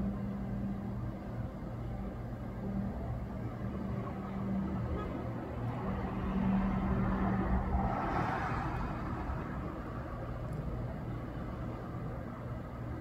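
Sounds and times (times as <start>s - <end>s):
steady low hum: 0.0s - 13.0s
road vehicle passing: 1.8s - 13.0s.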